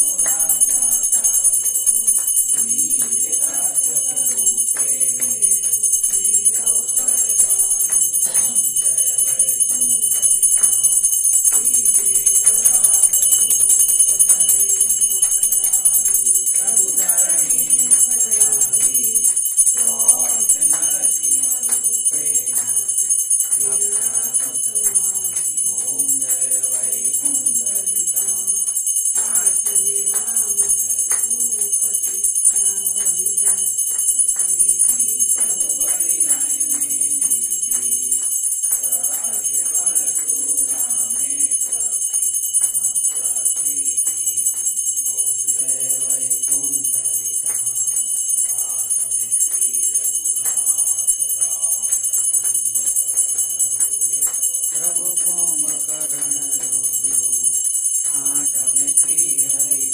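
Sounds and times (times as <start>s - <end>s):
bell ringing: 0.0s - 59.9s
hands clapping: 0.0s - 59.9s
voices singing: 0.0s - 59.9s.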